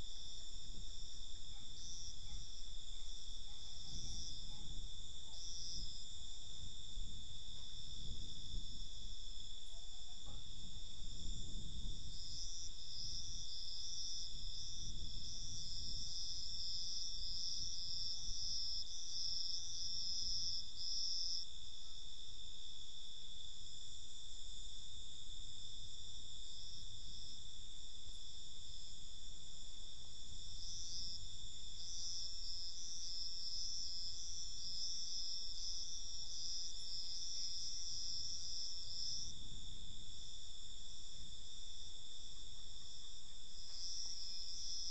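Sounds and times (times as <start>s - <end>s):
insects trilling drone: 0.0s - 44.9s
pulsing insect chirp: 0.0s - 44.9s.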